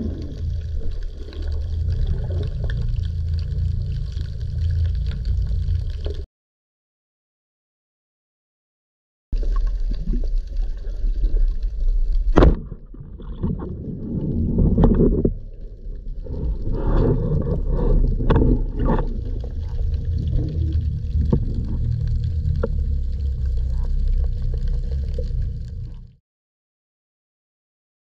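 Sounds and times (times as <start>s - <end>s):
water churning: 0.0s - 6.2s, 9.4s - 26.2s
water rumbling and sloshing: 0.0s - 6.3s, 9.4s - 26.2s.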